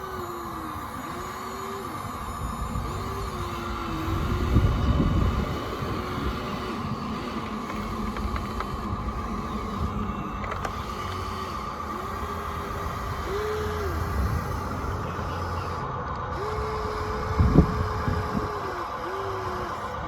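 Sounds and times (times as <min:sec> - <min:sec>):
rumbling: 0:00.0 - 0:20.0
steady high hum: 0:00.0 - 0:20.0
toy electric motors whining: 0:00.0 - 0:20.0.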